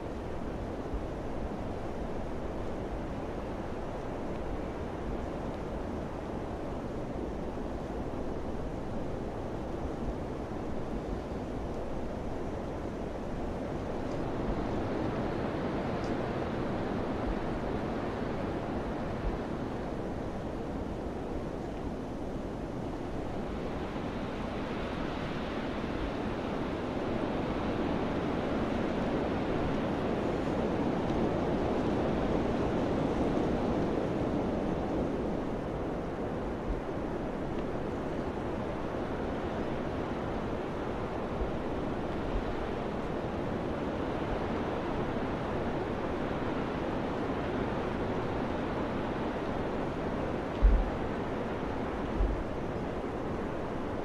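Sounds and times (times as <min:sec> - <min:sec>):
wind blowing in gusts: 0:00.0 - 0:54.0.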